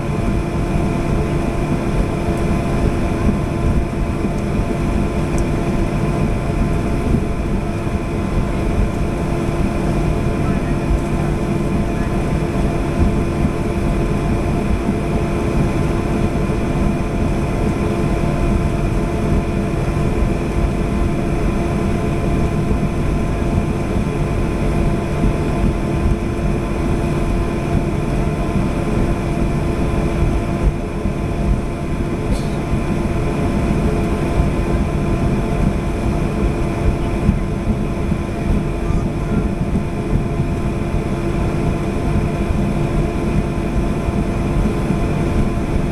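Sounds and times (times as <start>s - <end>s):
airliner engines rumbling: 0.0s - 45.9s.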